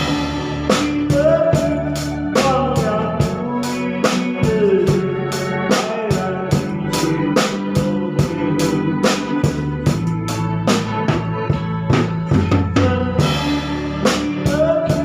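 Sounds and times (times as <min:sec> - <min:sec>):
drum kit beat: 0:00.0 - 0:15.0
organ-style keyboard melody: 0:00.0 - 0:15.0.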